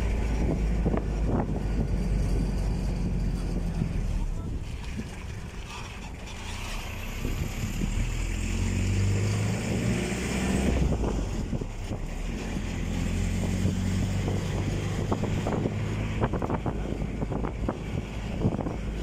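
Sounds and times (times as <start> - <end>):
engine humming: 0.0 - 19.0
wind rumbling on microphone: 0.0 - 19.0.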